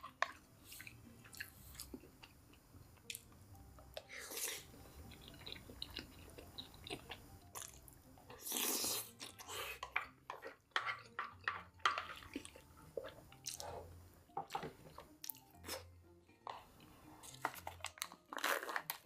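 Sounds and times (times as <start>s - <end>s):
person chewing crunchy food: 0.0s - 3.2s, 4.0s - 19.0s.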